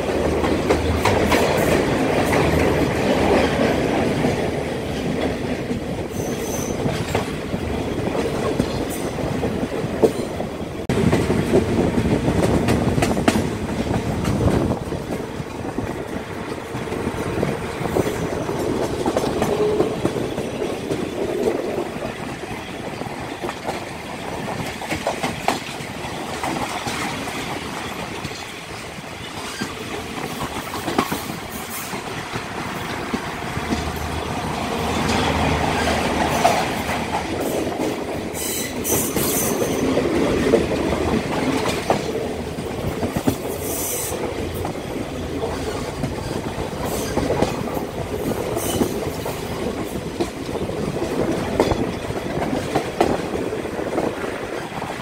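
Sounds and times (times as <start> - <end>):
train coaches rumbling and rattling: 0.0 - 55.0.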